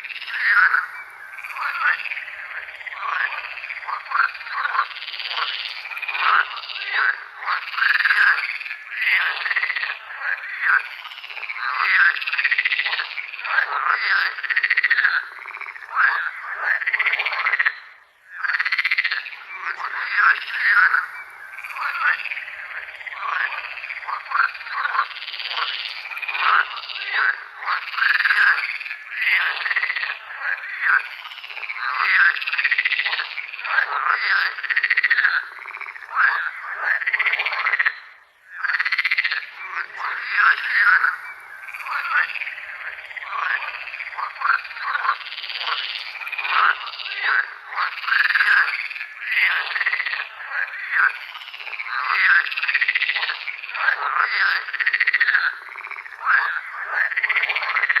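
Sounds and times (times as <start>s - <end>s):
frogs croaking: 0.0s - 58.0s.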